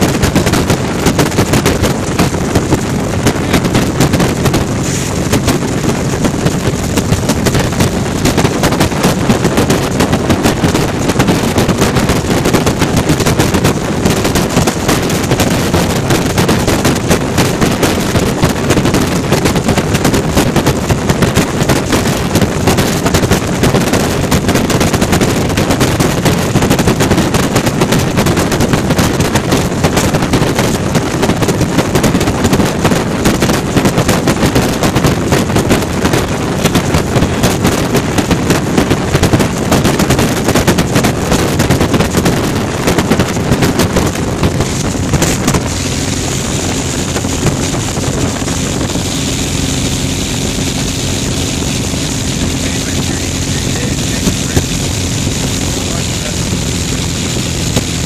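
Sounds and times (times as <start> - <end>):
aircraft engine and propeller crackling: 0.0 - 58.0
wind buffeting microphone: 0.0 - 58.0.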